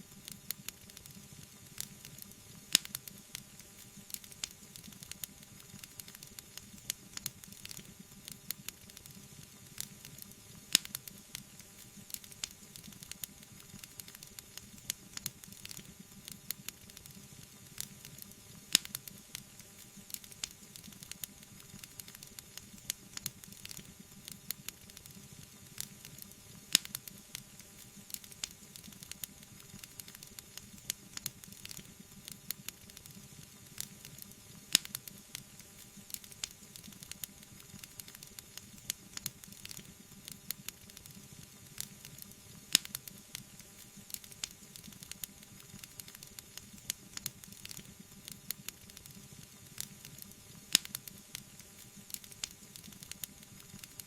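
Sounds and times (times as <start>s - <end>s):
low hiss of burning: 0.0s - 54.0s
wood fire crackling: 0.0s - 54.0s.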